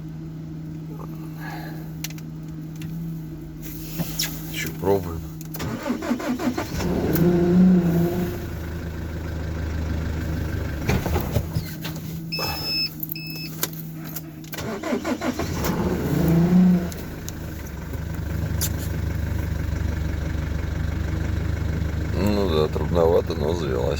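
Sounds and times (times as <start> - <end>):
van engine starting and revving: 0.0 - 23.9.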